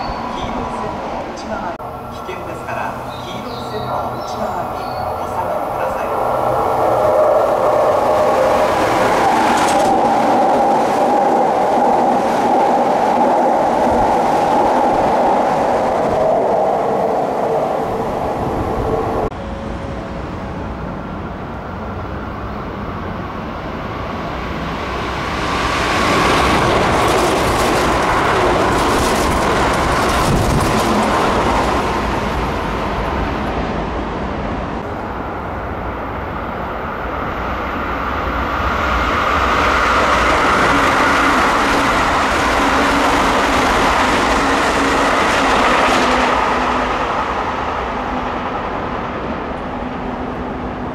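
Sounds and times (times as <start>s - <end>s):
train wheels rushing on rail: 0.0s - 19.3s, 23.2s - 50.9s.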